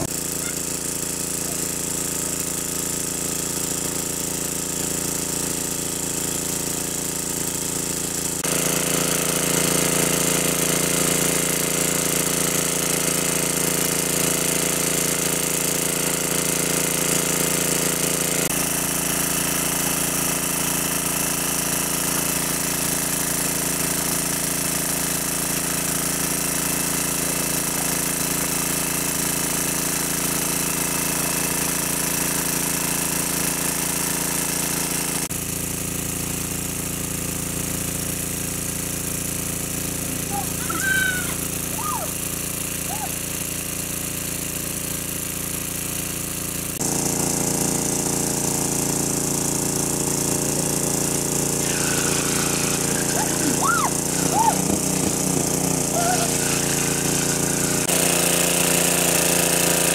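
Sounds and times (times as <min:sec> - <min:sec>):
water pump motor droning: 0:00.0 - 0:59.9.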